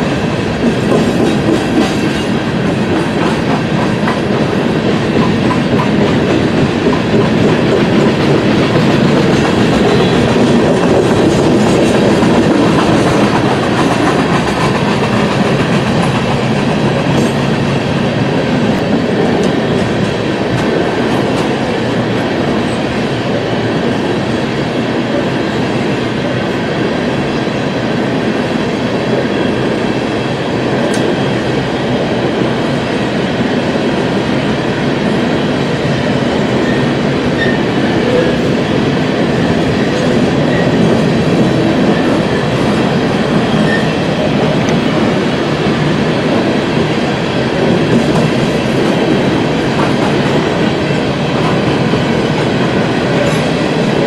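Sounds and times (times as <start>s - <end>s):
freight train cars rolling past: 0.0s - 54.0s.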